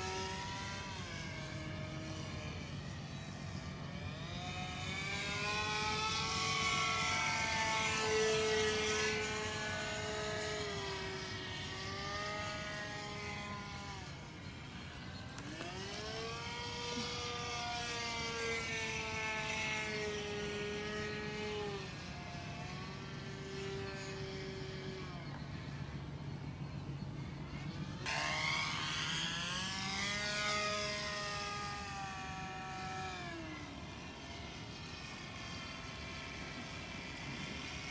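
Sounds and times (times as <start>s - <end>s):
model airplane engine at high throttle: 0.0s - 37.9s.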